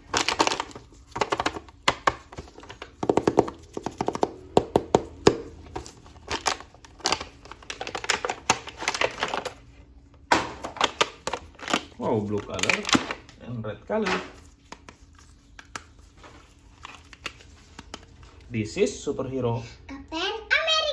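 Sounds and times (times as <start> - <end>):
plastic packaging crackling: 0.0 - 13.4, 14.1 - 18.5.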